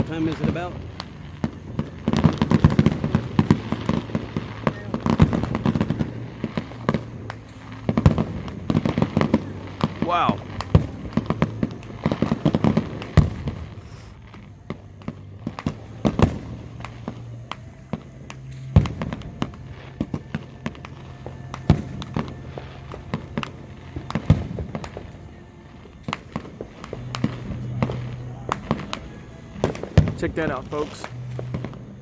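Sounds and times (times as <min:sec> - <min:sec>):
fireworks booming and crackling: 0:00.0 - 0:32.0.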